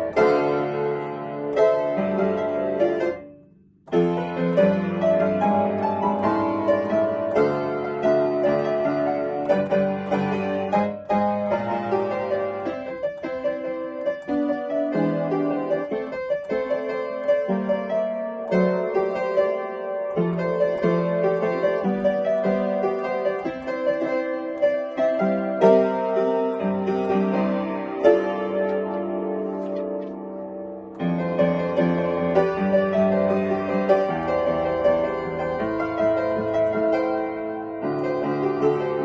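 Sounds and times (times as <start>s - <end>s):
piano playing melody over chords: 0.0s - 39.0s.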